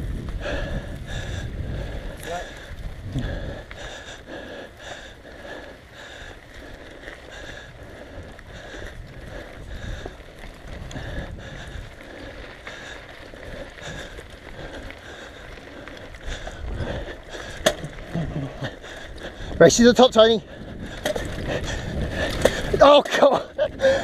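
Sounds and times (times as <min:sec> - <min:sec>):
mountain bike tyres on dirt: 0:00.0 - 0:24.0
wind rumbling on microphone: 0:00.0 - 0:24.0.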